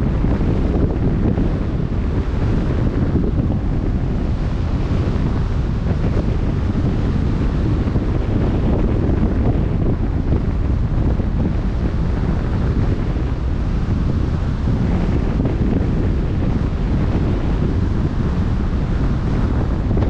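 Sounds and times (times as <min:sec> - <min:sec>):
waves on open sea: 0:00.0 - 0:20.0
wind buffeting microphone: 0:00.0 - 0:20.0.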